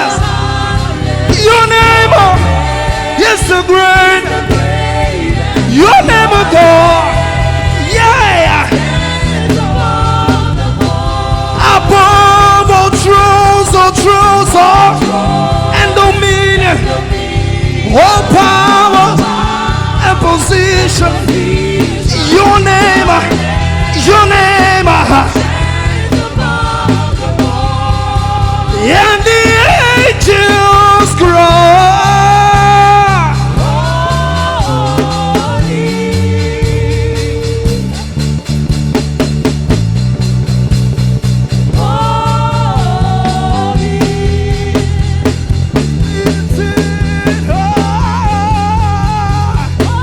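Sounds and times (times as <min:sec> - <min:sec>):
band playing steady beat: 0:00.0 - 0:50.0
bass line: 0:00.0 - 0:50.0.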